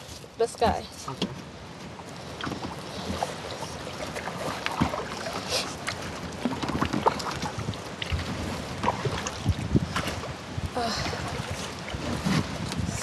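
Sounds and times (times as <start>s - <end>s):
paddle splashing: 0.0s - 13.0s.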